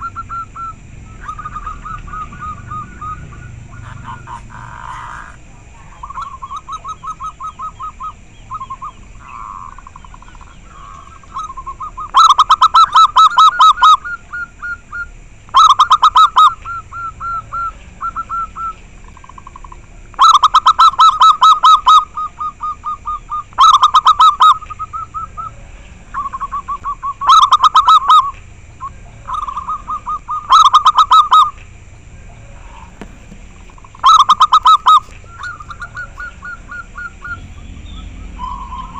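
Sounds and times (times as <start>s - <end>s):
distant doves cooing: 0.0s - 38.9s
doves cooing loudly: 0.0s - 38.9s.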